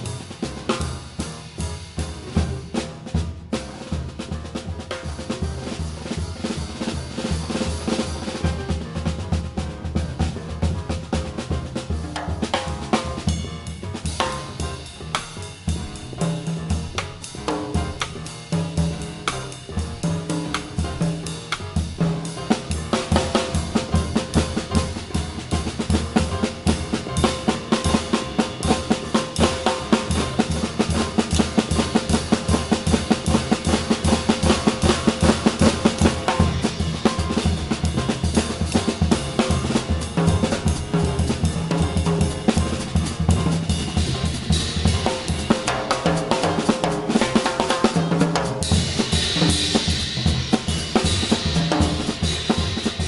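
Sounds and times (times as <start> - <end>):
drum kit solo: 0.0 - 53.0.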